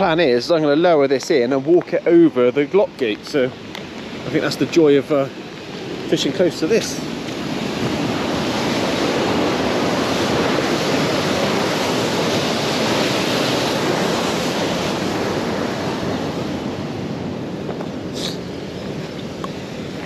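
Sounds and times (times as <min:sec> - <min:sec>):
rushing water: 0:00.0 - 0:20.0
rushing wind: 0:00.0 - 0:20.0.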